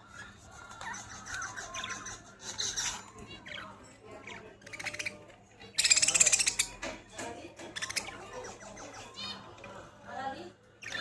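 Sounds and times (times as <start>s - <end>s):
birds squawking and chirping: 0.0s - 11.0s.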